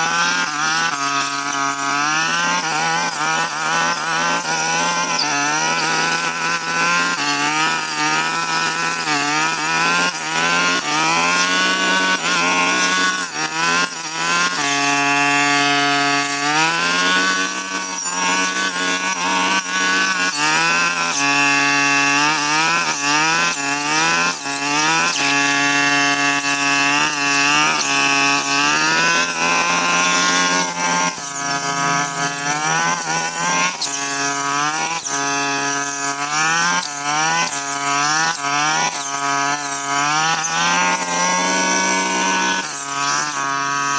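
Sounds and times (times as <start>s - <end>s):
brush cutter engine at high revs: 0.0s - 43.9s.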